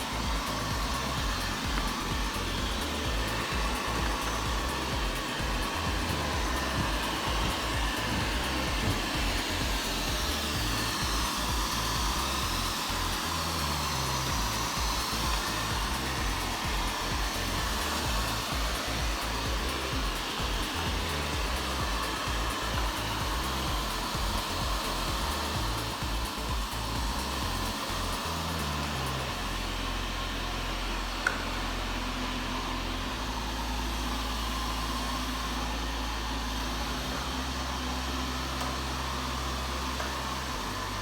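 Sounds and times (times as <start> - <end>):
robot vacuum cleaner whirring: 0.0 - 41.0.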